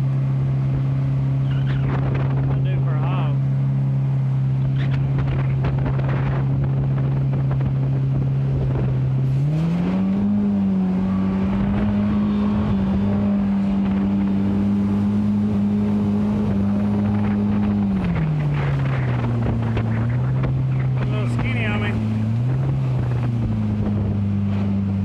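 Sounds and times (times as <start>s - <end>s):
boat motor droning: 0.0s - 25.0s.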